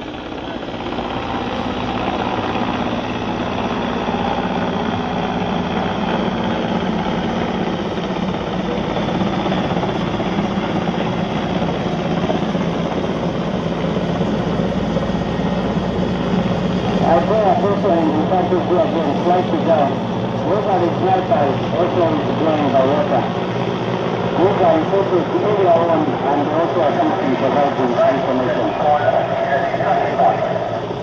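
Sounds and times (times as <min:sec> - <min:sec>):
engine drone: 0:00.0 - 0:31.0.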